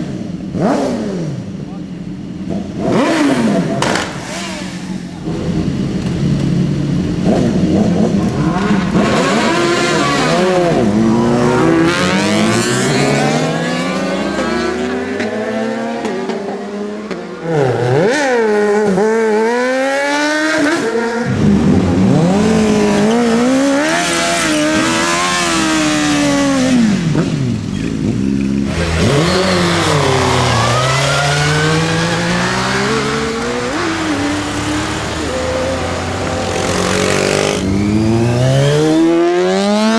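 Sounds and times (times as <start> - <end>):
motorcycle engines revving past: 2.4 - 39.9.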